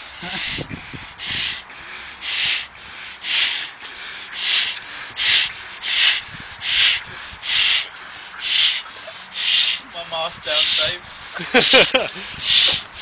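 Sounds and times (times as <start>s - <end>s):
person breathing hard through nose: 0.0s - 13.0s.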